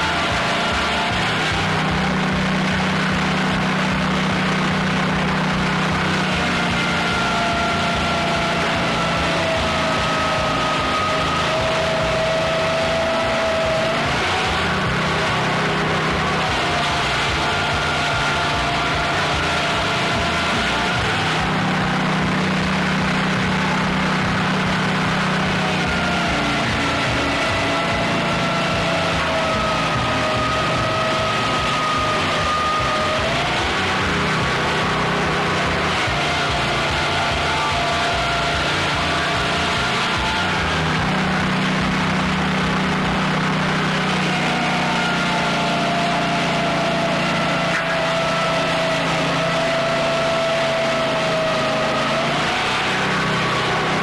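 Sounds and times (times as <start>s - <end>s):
sawmill sawing through log: 0.0s - 54.0s.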